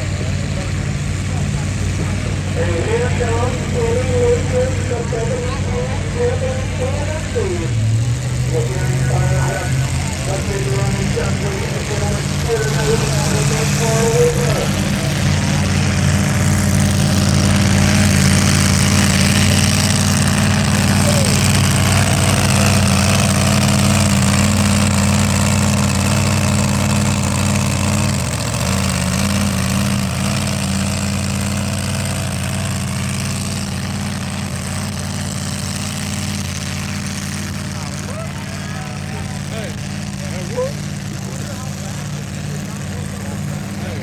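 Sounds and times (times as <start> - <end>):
truck engine running loudly: 0.0 - 44.0.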